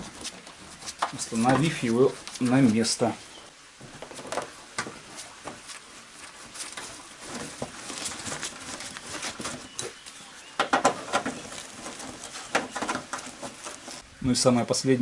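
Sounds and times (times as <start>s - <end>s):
vinyl cover rustling: 0.0s - 3.2s, 3.8s - 14.0s.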